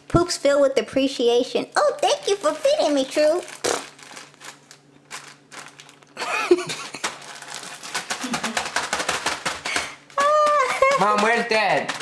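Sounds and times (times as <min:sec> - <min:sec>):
food crackling in plastic bag: 0:02.2 - 0:12.0.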